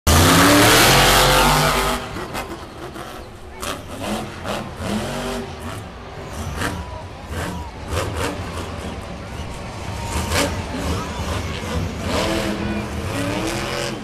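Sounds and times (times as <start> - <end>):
monster truck engine revving: 0.1 - 14.0.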